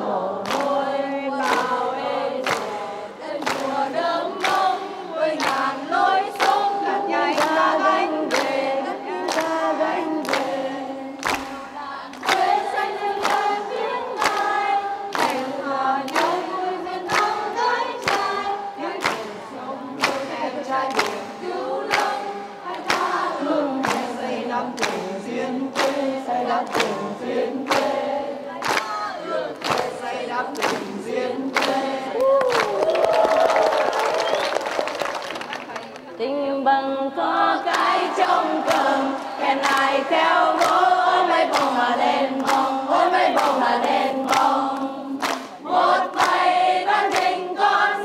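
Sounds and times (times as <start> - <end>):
crowd singing: 0.0 - 32.8, 34.2 - 34.4, 36.0 - 48.0
hand claps: 0.4 - 0.8, 1.4 - 1.8, 2.4 - 2.8, 3.4 - 5.7, 6.3 - 6.7, 7.3 - 7.7, 8.3 - 9.6, 10.2 - 10.6, 11.2 - 19.4, 20.0 - 25.1, 25.7 - 27.0, 27.6 - 36.1, 37.7 - 47.4.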